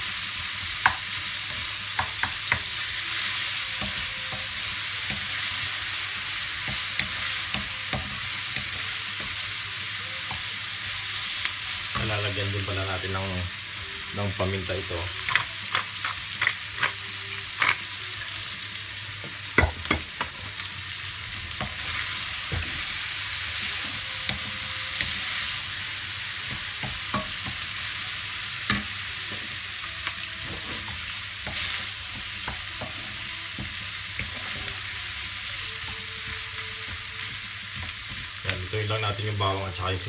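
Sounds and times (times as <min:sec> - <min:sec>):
food sizzling in a frying pan: 0:00.0 - 0:40.0.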